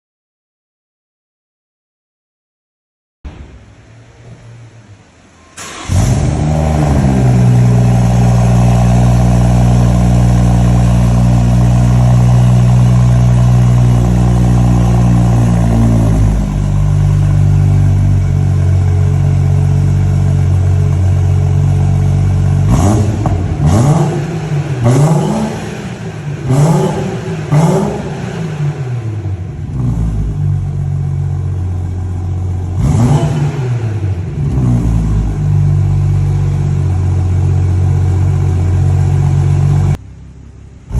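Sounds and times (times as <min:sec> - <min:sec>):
car engine starting and idling: 0:03.3 - 0:40.9
car engine revving: 0:05.6 - 0:40.0.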